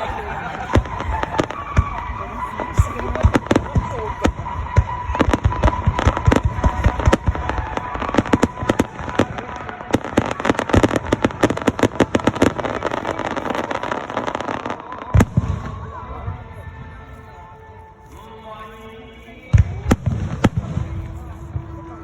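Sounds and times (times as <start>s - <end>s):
fireworks bursts and crackling bangs: 0.0s - 22.0s.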